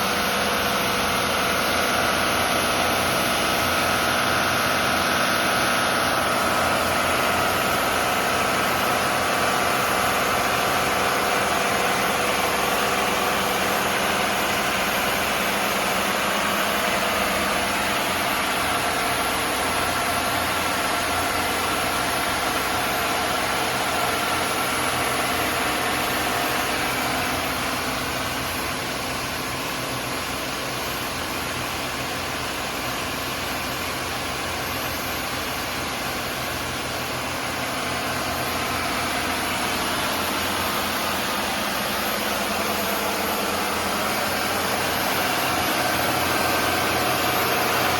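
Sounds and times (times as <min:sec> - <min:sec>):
boat engines droning: 0:00.0 - 0:47.9.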